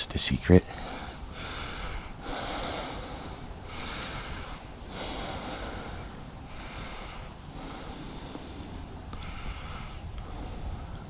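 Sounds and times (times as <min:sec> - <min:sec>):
person breathing close to microphone: 0:00.7 - 0:11.0.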